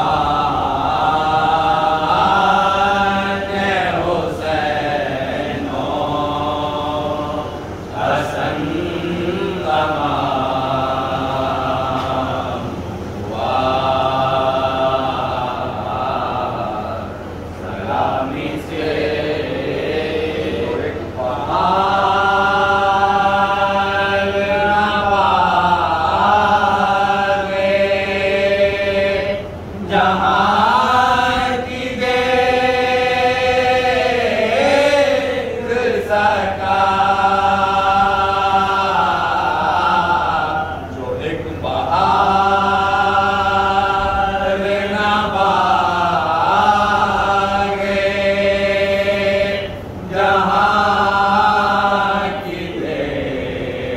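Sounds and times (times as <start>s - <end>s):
man leading recitation: 0.0s - 53.9s
men chanting in chorus: 0.0s - 53.9s.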